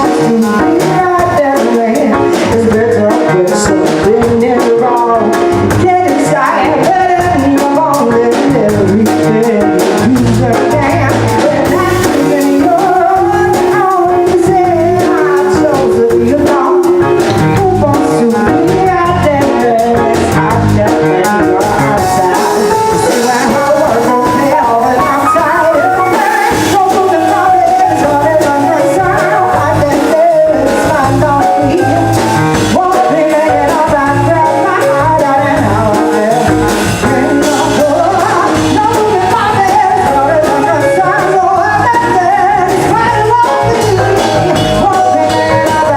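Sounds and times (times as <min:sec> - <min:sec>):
lead vocal singing: 0:00.0 - 0:45.9
live band playing soul-pop: 0:00.0 - 0:45.9.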